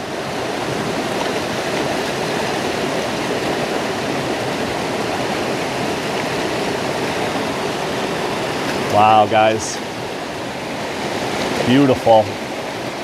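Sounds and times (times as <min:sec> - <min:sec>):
creek water rushing down waterfall: 0:00.0 - 0:13.0.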